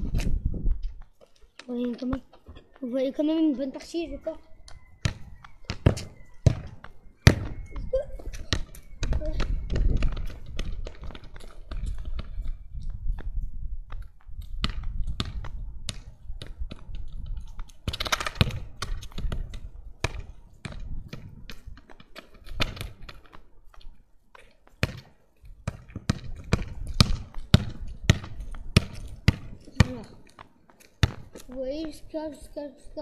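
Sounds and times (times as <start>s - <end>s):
football bouncing on pavement: 0.0s - 32.2s.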